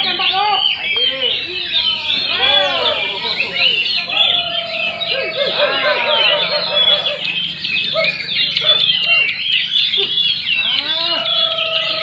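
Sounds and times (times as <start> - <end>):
lower bird call with sweeping notes: 0.0 - 12.0
many songbirds singing: 0.0 - 12.0.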